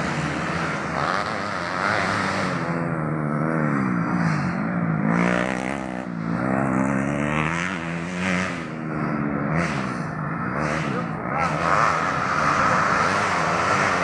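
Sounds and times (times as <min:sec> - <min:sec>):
racing motorcycle engines revving: 0:00.0 - 0:14.0.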